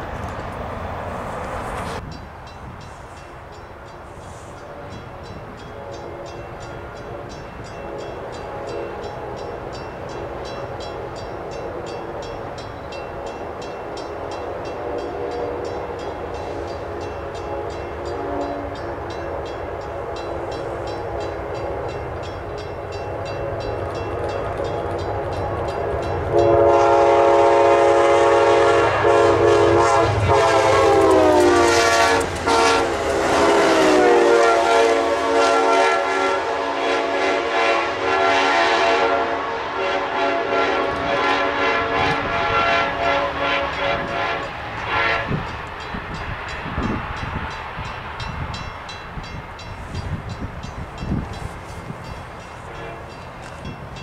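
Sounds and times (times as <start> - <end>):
diesel locomotive rumble: 0.0 - 54.0
train coaches rolling by: 0.0 - 54.0
locomotive horn: 4.2 - 45.6, 51.1 - 53.3.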